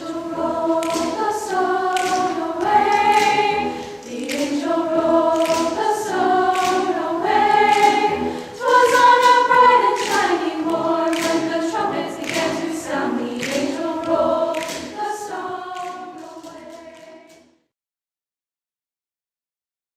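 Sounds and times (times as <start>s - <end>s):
choir singing in harmony: 0.0s - 17.5s.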